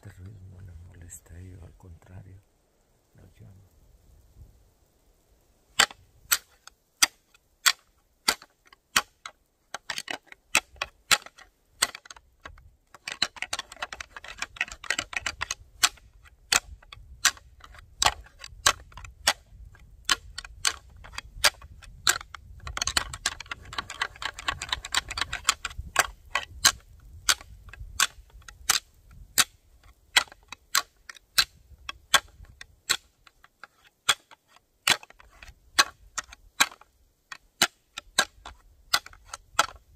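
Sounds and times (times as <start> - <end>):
antlers clacking together: 5.8 - 39.9.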